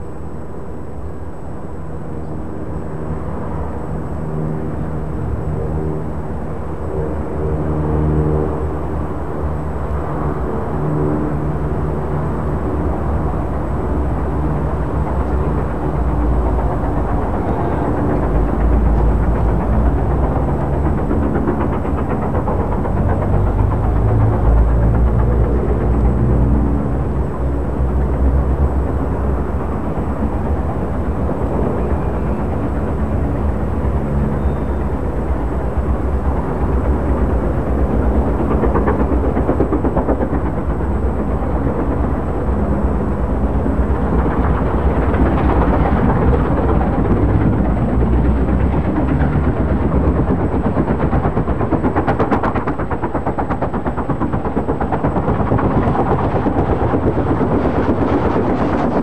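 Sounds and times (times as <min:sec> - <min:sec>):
train rumble: 0:08.4 - 0:59.0.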